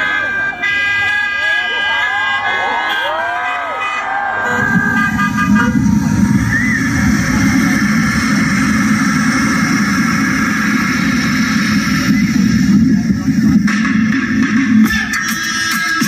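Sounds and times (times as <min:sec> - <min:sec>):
bus engine running: 0:03.1 - 0:16.0.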